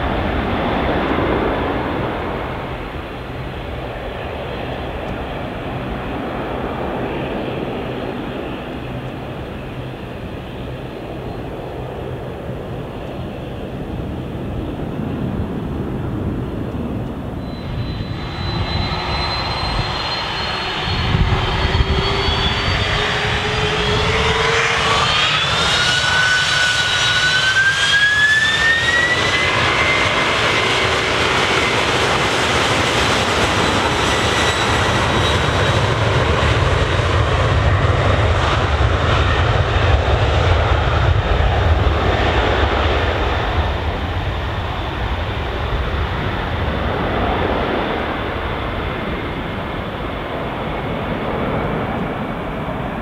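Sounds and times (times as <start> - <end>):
jet engine roar: 0.0 - 53.0
jet engines spooling up with whine: 0.0 - 53.0.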